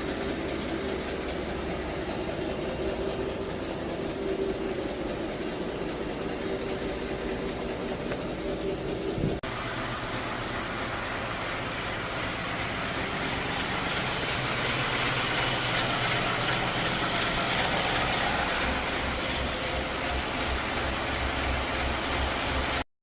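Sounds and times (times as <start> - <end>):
engine running with rapid tapping: 0.0 - 22.9.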